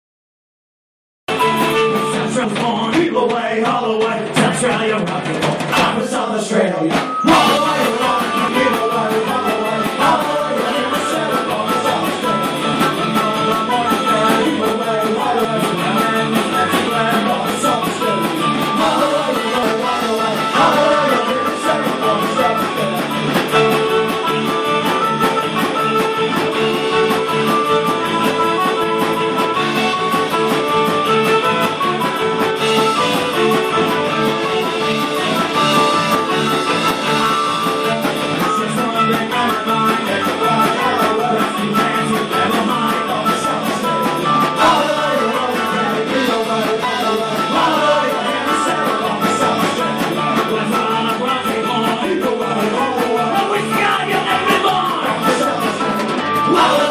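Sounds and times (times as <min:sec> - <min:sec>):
live rock band playing: 0:01.3 - 0:56.9
distorted electric guitar: 0:06.9 - 0:56.9.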